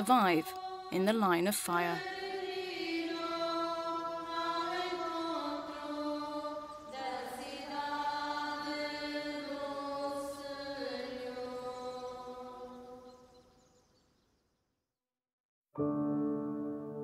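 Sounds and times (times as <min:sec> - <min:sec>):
wordless choir music: 0:00.0 - 0:13.8.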